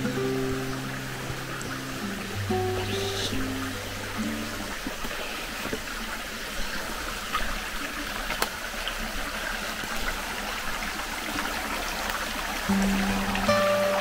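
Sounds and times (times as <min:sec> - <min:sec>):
brook trickling: 0:00.0 - 0:14.0.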